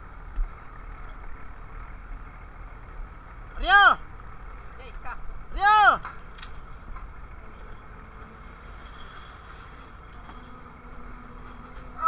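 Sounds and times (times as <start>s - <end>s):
boat engines rumbling: 0.0s - 12.0s
faint steady hum: 0.0s - 12.0s.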